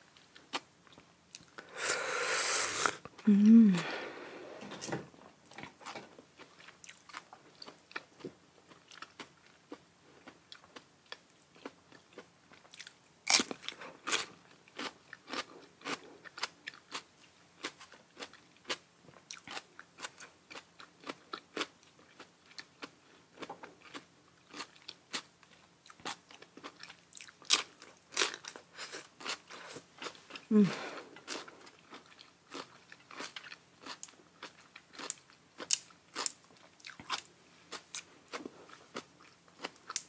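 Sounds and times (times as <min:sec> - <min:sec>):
person chewing: 0:00.2 - 0:04.2, 0:05.4 - 0:40.0.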